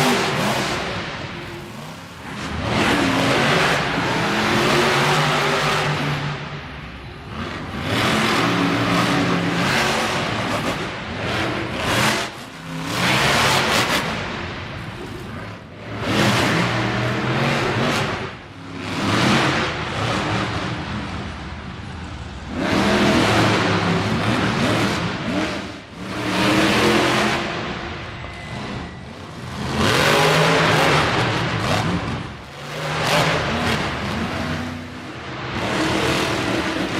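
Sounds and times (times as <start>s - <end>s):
truck engine revving hard: 0.0s - 6.6s, 7.2s - 14.5s, 15.3s - 21.1s, 22.4s - 27.8s, 28.5s - 36.9s.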